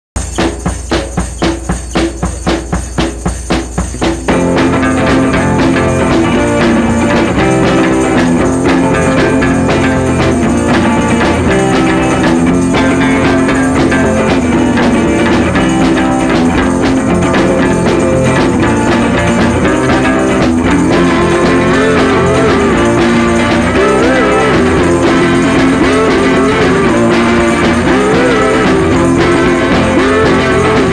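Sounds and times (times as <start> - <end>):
rock music: 0.2 - 30.9.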